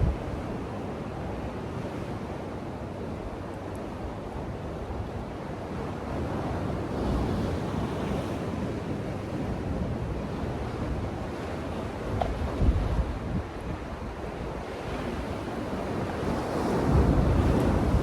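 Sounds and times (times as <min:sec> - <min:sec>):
wind rumble on microphone: 0:00.0 - 0:02.2, 0:03.0 - 0:18.0.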